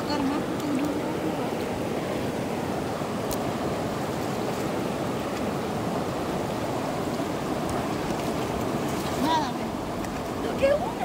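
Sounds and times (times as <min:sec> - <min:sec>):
river rushing over rapids: 0:00.0 - 0:11.0.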